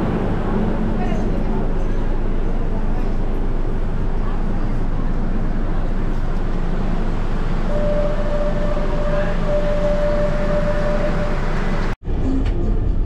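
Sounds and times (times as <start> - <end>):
steady high whine: 0.0 - 12.0
train running rumble: 0.0 - 13.0.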